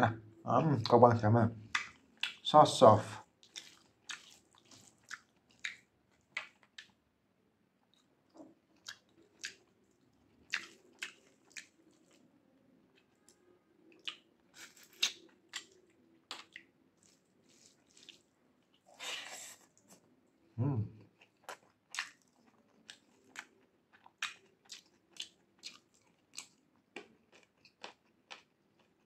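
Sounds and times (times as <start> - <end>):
person chewing with wet smacks: 1.6 - 2.5, 3.2 - 7.0, 7.8 - 12.3, 12.9 - 20.2, 21.0 - 29.0.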